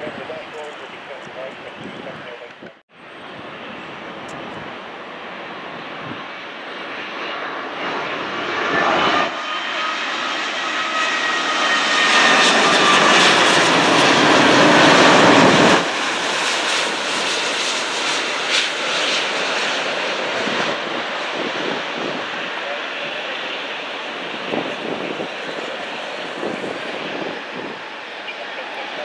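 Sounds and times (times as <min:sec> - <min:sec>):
jet engine rumble with fan whine: 0:00.0 - 0:29.0.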